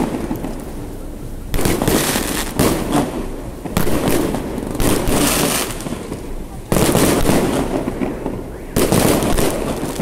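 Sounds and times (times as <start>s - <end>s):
fireworks bursts: 0.0s - 10.0s.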